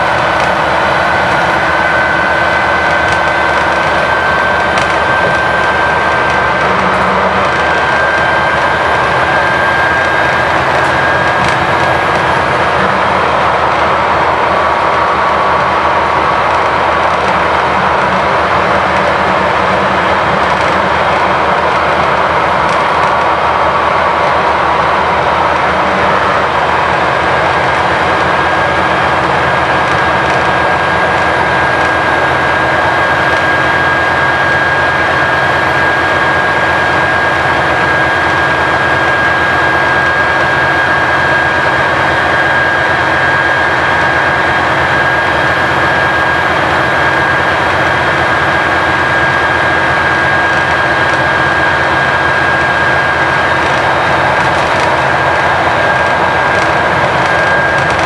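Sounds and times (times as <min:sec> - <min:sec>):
bus engine and road drone: 0:00.0 - 0:58.0
high whine: 0:00.0 - 0:58.0.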